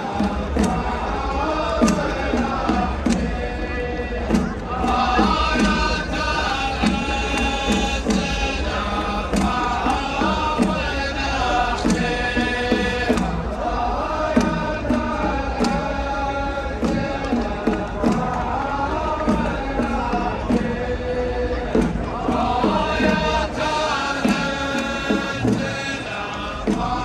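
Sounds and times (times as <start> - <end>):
crowd chanting in unison: 0.0 - 27.0
music with sharp beats: 0.0 - 27.0.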